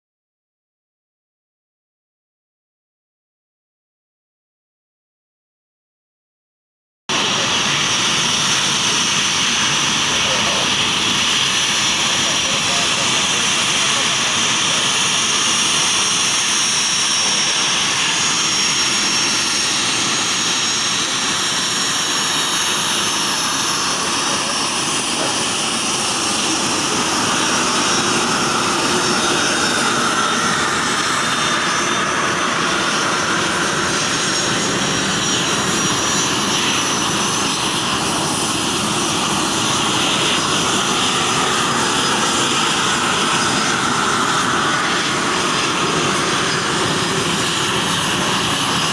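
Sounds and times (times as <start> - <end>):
aircraft engines running: 7.1 - 48.9
high-pitched engine whine: 7.1 - 48.9.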